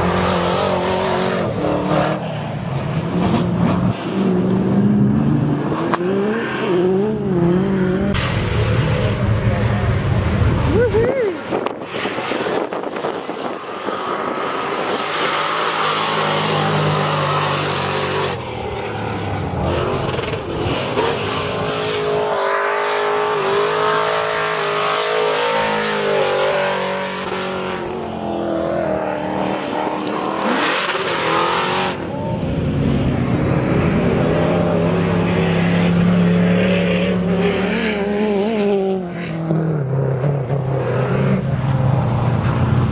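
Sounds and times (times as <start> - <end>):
truck engines revving: 0.0 - 42.9.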